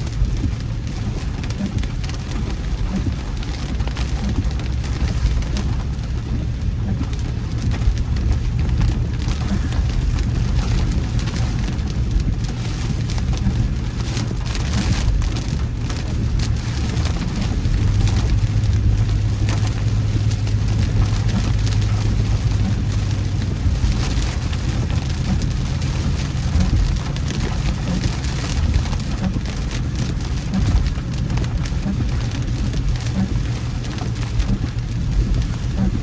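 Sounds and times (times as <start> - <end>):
car tyres and engine rumble: 0.0 - 36.0
heavy rain on a car: 0.0 - 36.0.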